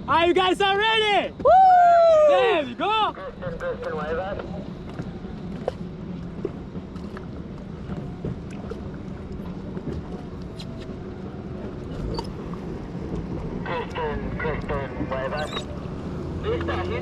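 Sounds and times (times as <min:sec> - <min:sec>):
jet ski engine running: 0:03.2 - 0:17.0.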